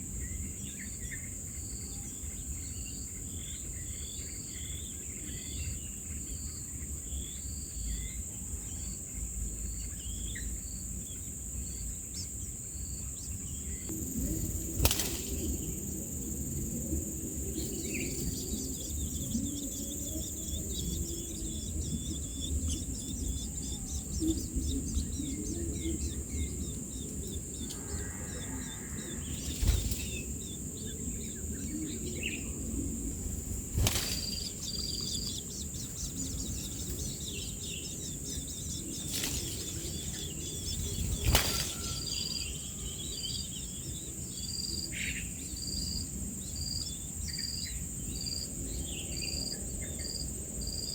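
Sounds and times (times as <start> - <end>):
high insect drone: 0.0 - 50.9
small birds chirping: 0.0 - 50.9.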